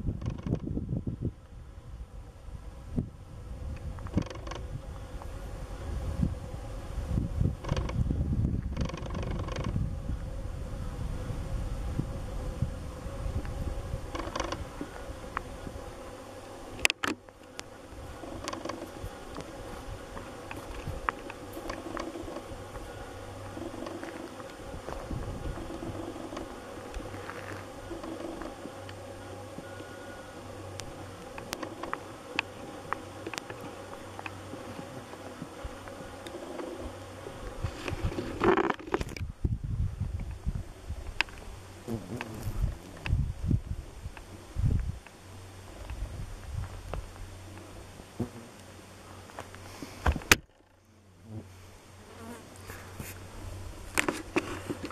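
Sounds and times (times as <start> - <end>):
flying insects buzzing: 0.0 - 54.9.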